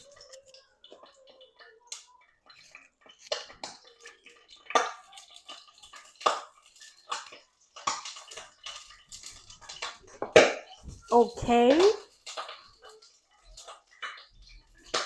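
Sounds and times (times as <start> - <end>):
cookware and utensils clinking: 0.0 - 15.0.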